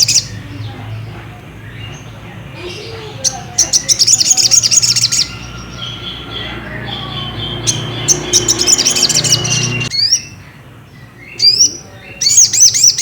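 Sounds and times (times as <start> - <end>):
bird high sharp chirps: 0.0 - 0.7, 1.6 - 13.0.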